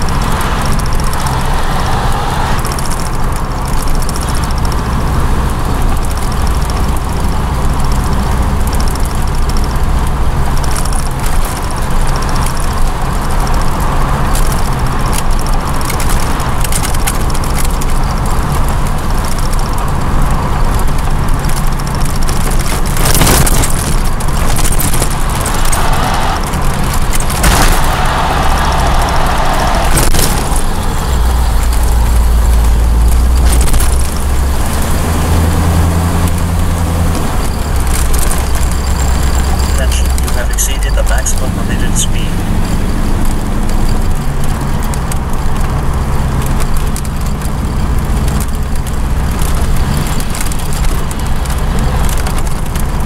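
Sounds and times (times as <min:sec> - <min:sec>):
car engine drone: 0:00.0 - 0:53.0
road and wind noise: 0:00.0 - 0:53.0.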